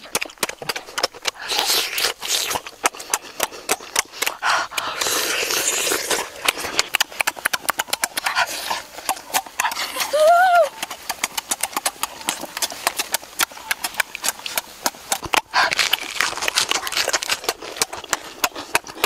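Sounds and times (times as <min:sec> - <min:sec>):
sucking and slurping: 0:00.0 - 0:19.0
wet chewing and lip-smacking: 0:00.0 - 0:19.0.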